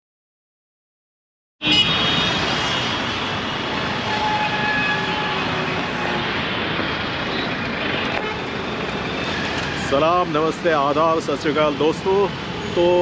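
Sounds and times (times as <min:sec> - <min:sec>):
road traffic engine and tyre noise: 0:01.6 - 0:13.0.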